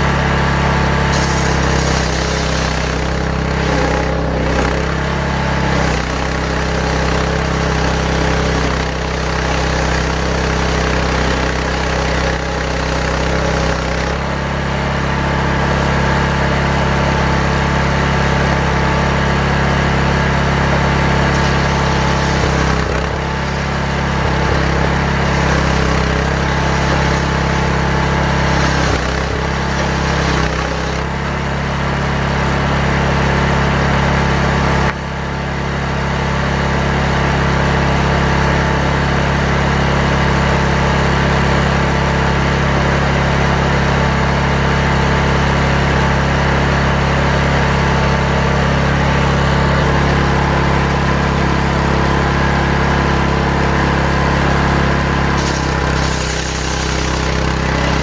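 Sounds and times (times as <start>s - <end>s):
chainsaw cutting a log: 0.0s - 35.1s, 36.2s - 58.0s.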